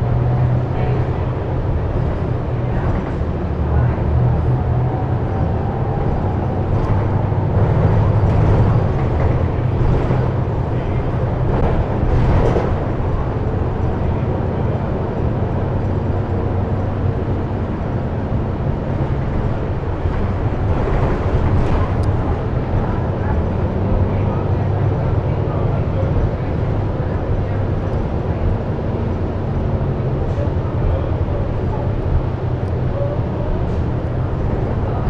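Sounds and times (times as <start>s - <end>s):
bus engine drone: 0.0s - 35.0s
road noise: 0.0s - 35.0s.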